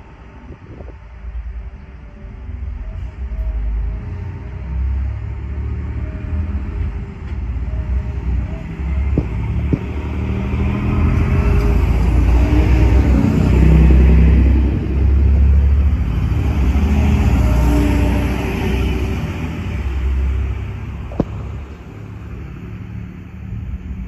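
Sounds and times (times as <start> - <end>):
diesel train rumbling past: 0.0 - 24.0.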